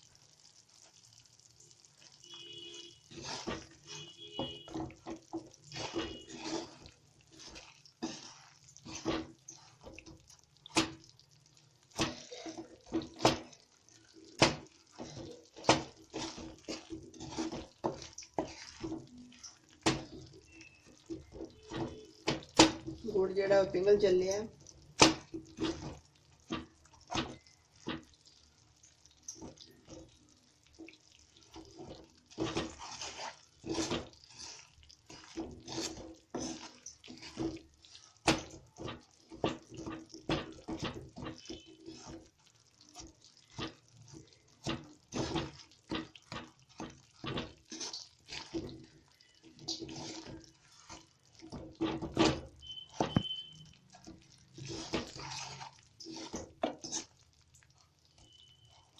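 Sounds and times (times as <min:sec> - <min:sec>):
spoon stirring and scraping pan: 0:00.0 - 0:58.9.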